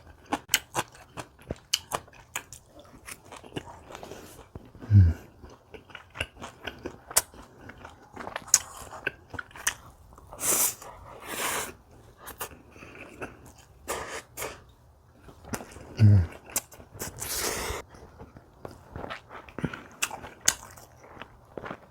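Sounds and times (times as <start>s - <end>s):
person chewing food: 0.0s - 21.9s.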